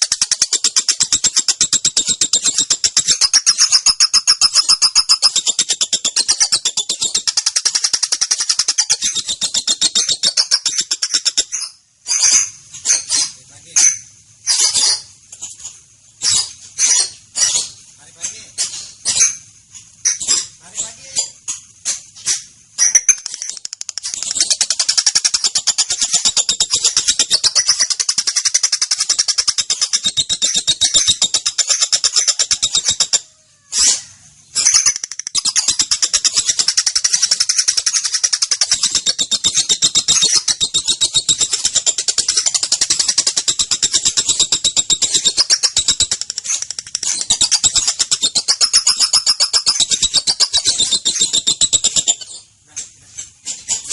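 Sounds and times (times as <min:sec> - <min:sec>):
lovebird chattering trill: 0:00.0 - 0:15.2, 0:16.2 - 0:52.5.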